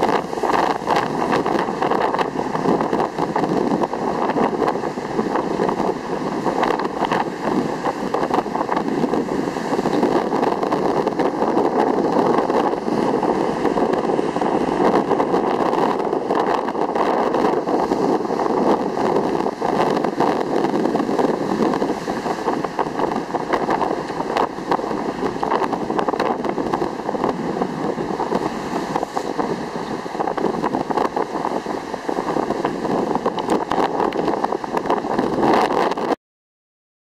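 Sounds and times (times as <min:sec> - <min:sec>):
wind buffeting microphone: 0:00.0 - 0:36.2.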